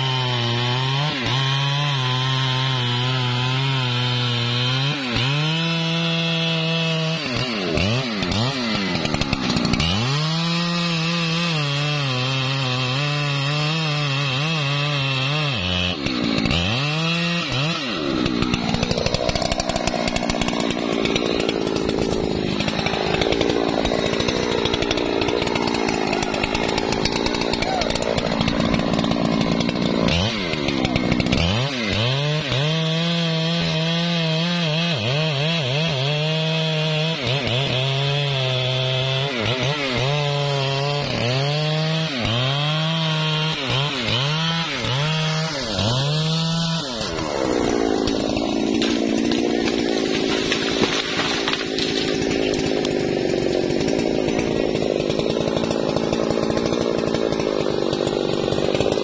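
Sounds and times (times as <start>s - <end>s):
chainsaw cutting through wood: 0.0s - 59.0s.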